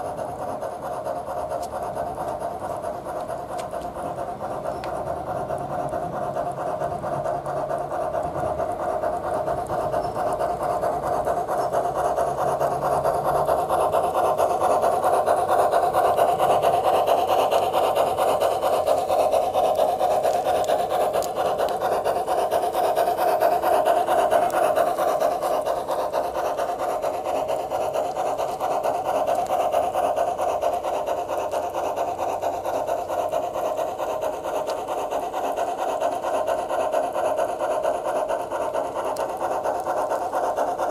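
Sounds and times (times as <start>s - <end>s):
model steam locomotive chuffing: 0.0s - 40.9s.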